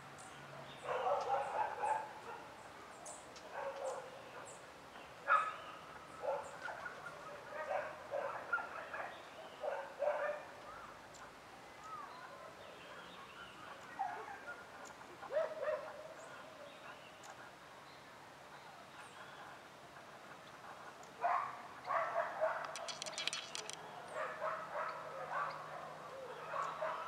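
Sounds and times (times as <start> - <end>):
distant dog barking and yelping: 0.5 - 2.7, 3.4 - 4.6, 5.2 - 10.9, 12.1 - 17.4, 18.9 - 27.0.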